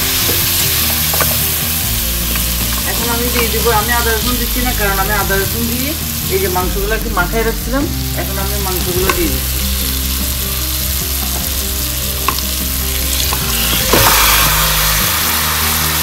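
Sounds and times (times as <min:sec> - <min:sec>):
wooden spoon stirring: 0:00.0 - 0:06.4, 0:08.2 - 0:16.0
onions sizzling in oil: 0:00.0 - 0:16.0.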